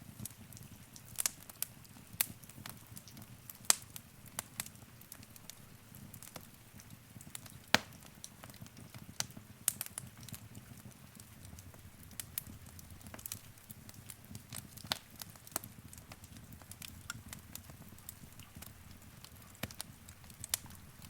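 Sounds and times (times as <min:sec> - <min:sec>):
fire crackling and popping: 0:00.0 - 0:21.0
low rumble of fire: 0:00.0 - 0:21.0.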